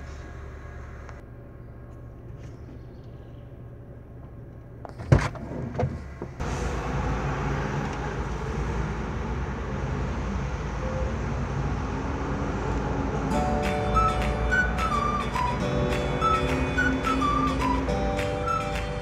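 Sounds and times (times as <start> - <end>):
car engine hum: 0.0 - 19.0
road and traffic noise: 0.0 - 19.0.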